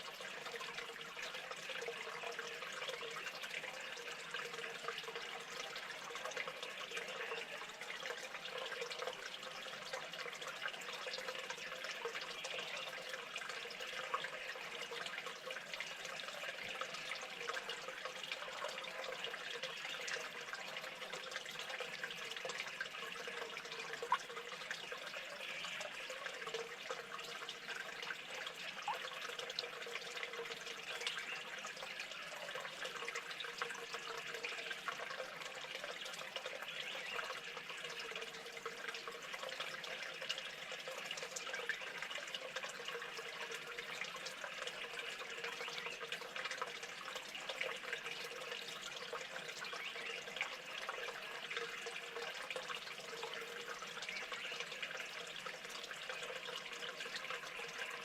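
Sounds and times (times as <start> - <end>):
water dripping: 0.0 - 58.0
water trickling and splashing: 0.0 - 58.0.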